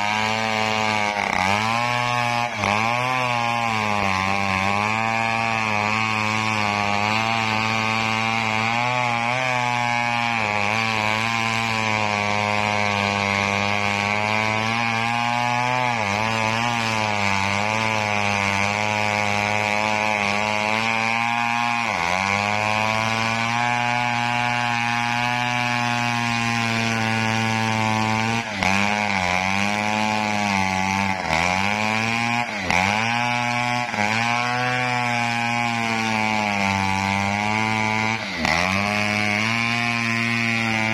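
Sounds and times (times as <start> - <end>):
engine-driven wood saw cutting: 0.0 - 40.9.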